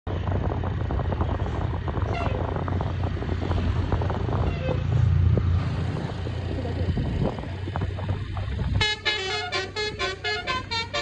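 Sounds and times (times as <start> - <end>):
roadside traffic: 0.0 - 11.0
diesel bus engine rumble: 0.1 - 11.0.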